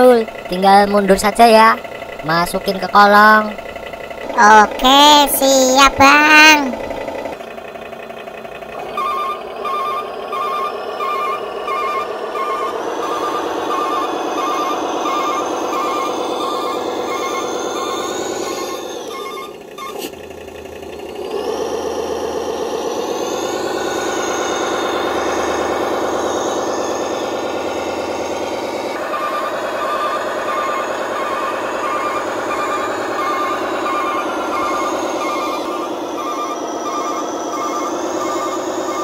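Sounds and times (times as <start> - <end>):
simulated diesel engine: 0.0 - 39.0
reversing beeper: 6.3 - 39.0.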